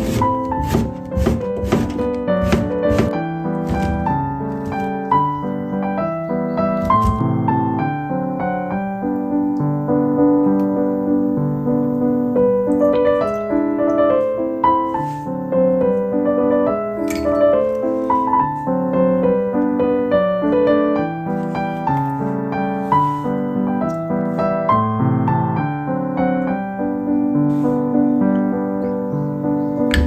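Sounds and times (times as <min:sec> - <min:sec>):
piano waltz music: 0:00.0 - 0:30.0.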